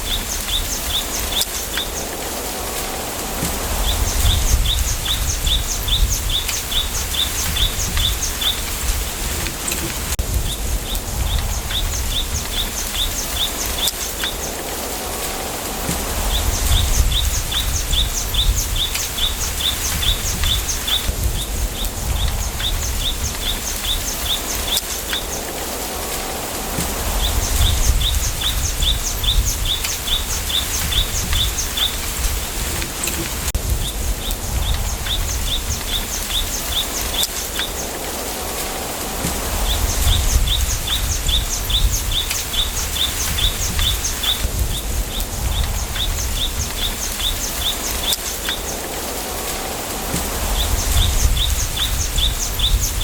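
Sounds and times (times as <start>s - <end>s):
bamboo leaves rustling: 0.0s - 53.0s
wind gusts on microphone: 0.0s - 53.0s.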